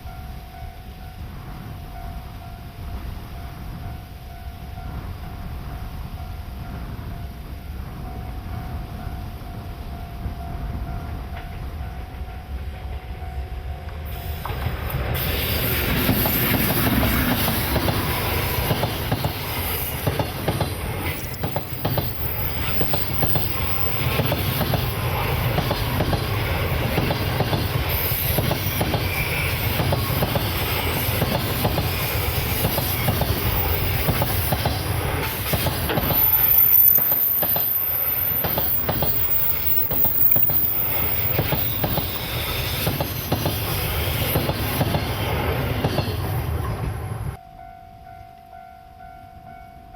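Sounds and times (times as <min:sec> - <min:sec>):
train wheels clattering on rails: 0:01.4 - 0:47.4.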